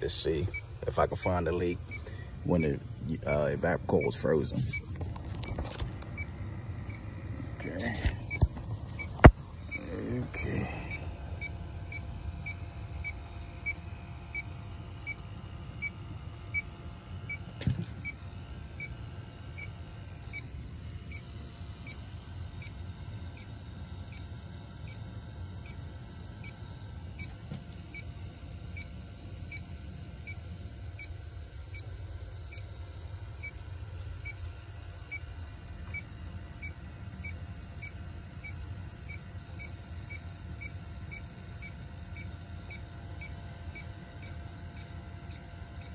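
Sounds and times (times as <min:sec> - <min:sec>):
low steady hum: 0:00.0 - 0:45.9.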